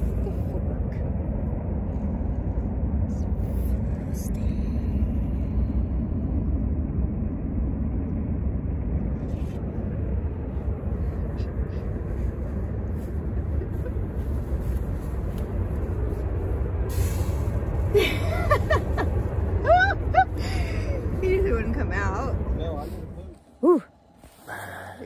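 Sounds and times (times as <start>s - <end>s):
wind buffeting microphone: 0.0s - 23.3s.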